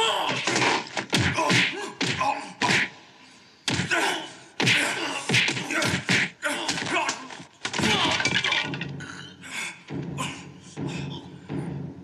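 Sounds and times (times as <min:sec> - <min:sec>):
people shouting and grunting: 0:00.0 - 0:12.0.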